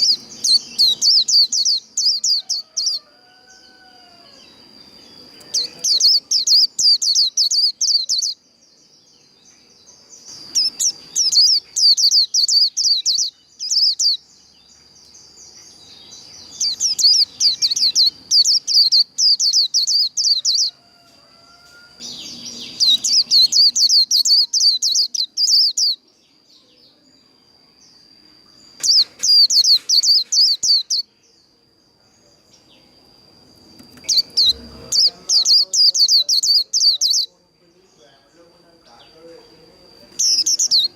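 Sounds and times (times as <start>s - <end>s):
bird chattering song: 0.0s - 3.1s, 4.3s - 20.8s, 22.0s - 26.9s, 28.7s - 31.5s, 33.6s - 40.9s.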